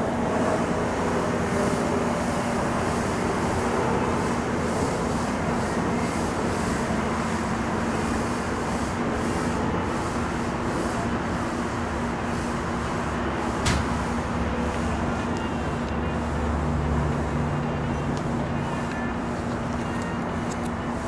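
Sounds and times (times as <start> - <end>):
train coaches rumbling past: 0.0 - 21.0.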